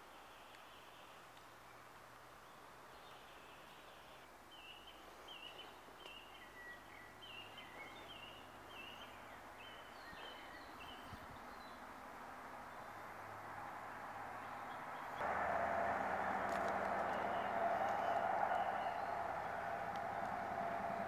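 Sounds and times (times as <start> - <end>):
faint steady hiss: 0.0 - 21.0
songbird chirping: 0.0 - 21.0.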